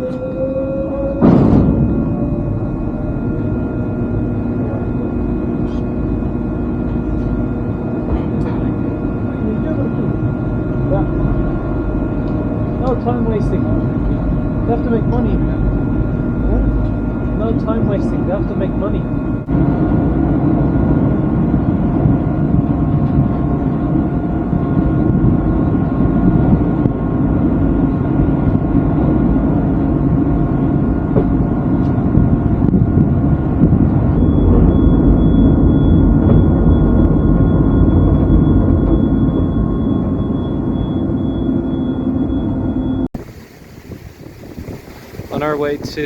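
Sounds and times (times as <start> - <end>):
engine drone: 0.0 - 46.0
high steady whine: 0.0 - 46.0.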